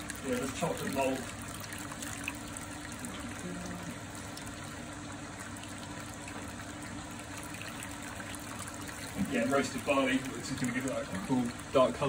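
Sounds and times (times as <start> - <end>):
liquid trickling and splashing: 0.0 - 12.0.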